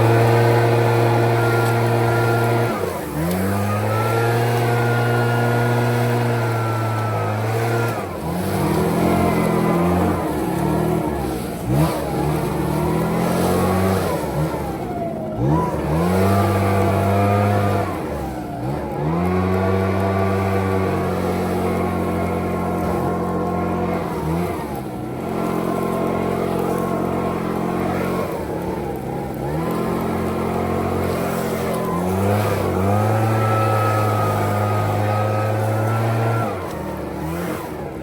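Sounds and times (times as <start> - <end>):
leaf blower engine revving: 0.0 - 38.0.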